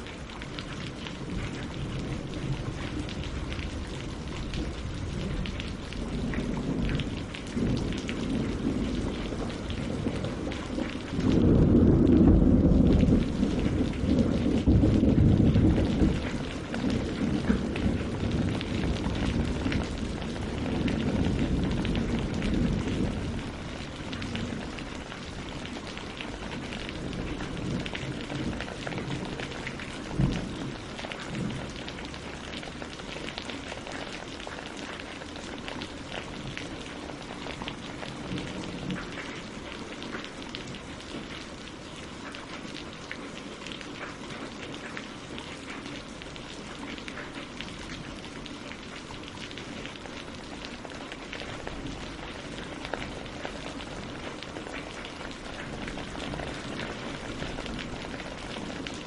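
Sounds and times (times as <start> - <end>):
rain pattering on water and leaves: 0.0 - 59.0.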